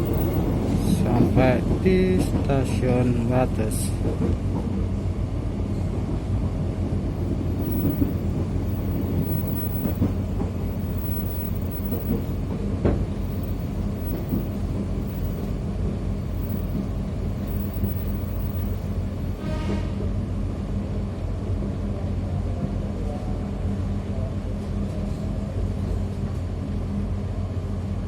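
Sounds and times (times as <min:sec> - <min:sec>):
train carriage hum and rumble: 0:00.0 - 0:28.0.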